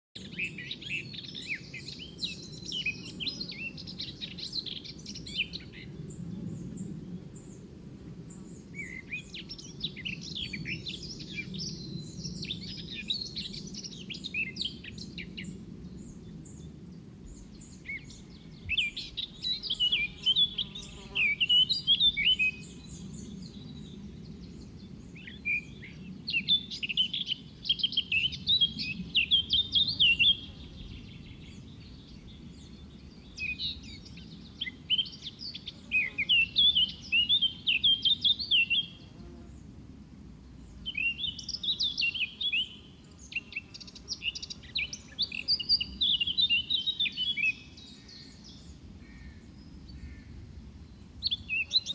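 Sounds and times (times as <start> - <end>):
small birds twittering: 8.3 - 39.7, 40.6 - 51.9.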